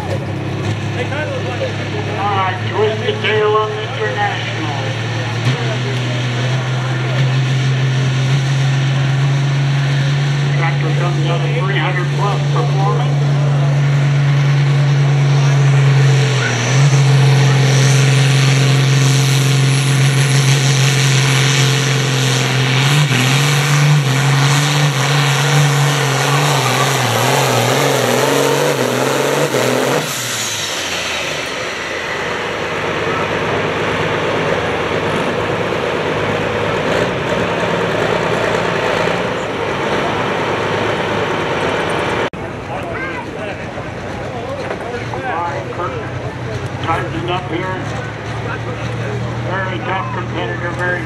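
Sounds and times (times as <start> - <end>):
tractor diesel engine droning: 0.0 - 51.0.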